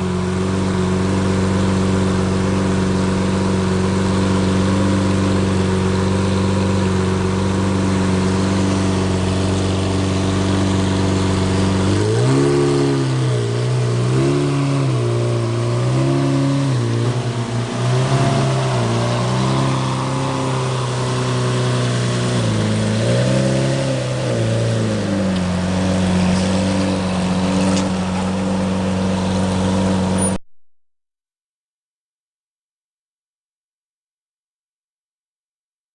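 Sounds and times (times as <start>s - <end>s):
car engine idling and revving: 0.0s - 30.4s.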